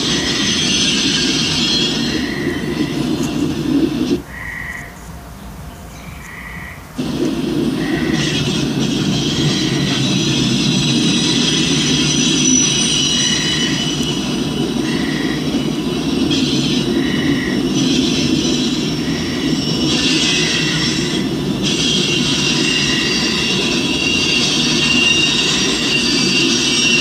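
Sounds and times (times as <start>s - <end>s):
wheel squeal: 0.0s - 4.2s, 7.0s - 27.0s
freight train cars rumbling: 0.0s - 27.0s.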